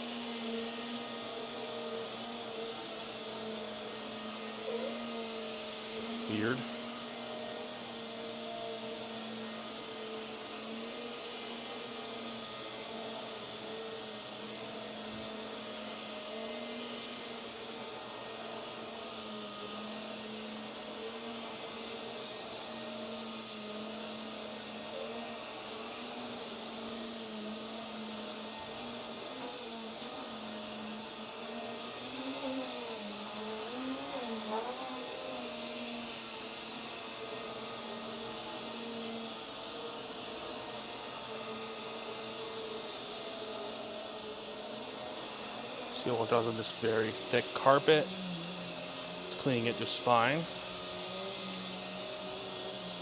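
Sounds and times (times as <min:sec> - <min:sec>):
vacuum cleaner running on carpet: 0:00.0 - 0:53.0.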